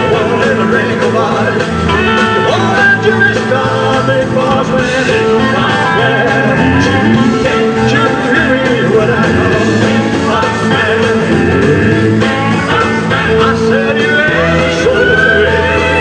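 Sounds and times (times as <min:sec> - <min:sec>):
man singing into microphone: 0:00.0 - 0:16.0
rock band playing blues: 0:00.0 - 0:16.0.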